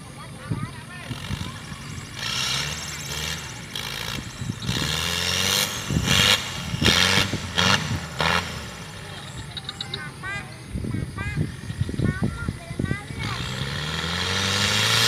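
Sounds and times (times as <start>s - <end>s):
engine revving: 0.0s - 15.0s
loud rushes of noise: 0.8s - 15.0s.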